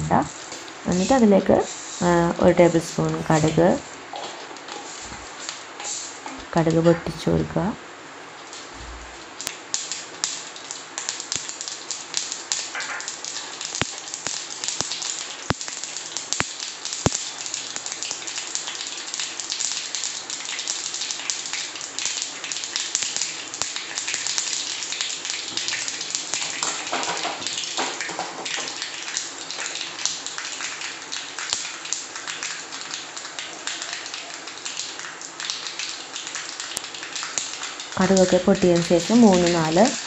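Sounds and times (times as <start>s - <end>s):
seeds crackling in hot oil: 0.1s - 7.2s, 8.4s - 40.0s.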